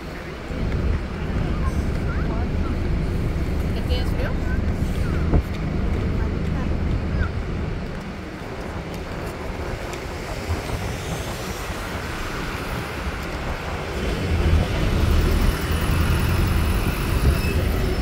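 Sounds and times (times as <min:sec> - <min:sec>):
traffic and bus engine rumble: 0:00.0 - 0:18.0.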